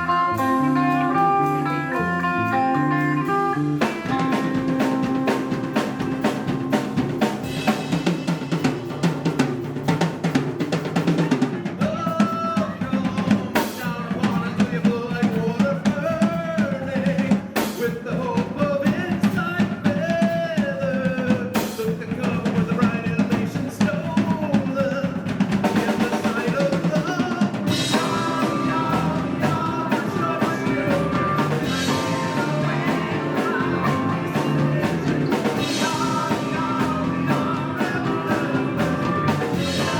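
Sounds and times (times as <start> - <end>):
drum kit: 0.0 - 39.9
rock band playing: 0.0 - 39.9.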